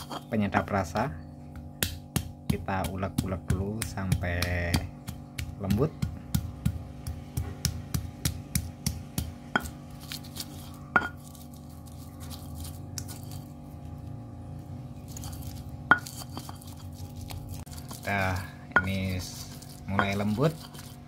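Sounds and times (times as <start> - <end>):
stone pestle pounding spices: 0.0 - 13.9, 14.9 - 21.0.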